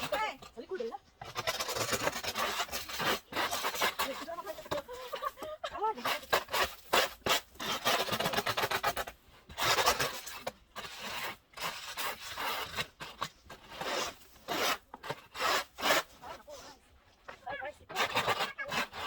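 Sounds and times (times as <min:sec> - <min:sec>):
scraper rasping on car ice: 0:00.0 - 0:19.0.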